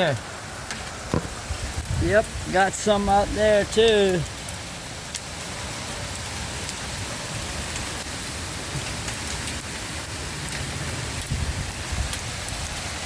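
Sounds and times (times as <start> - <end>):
hail and rain falling: 0.0 - 13.0
hailstones striking: 0.0 - 13.0.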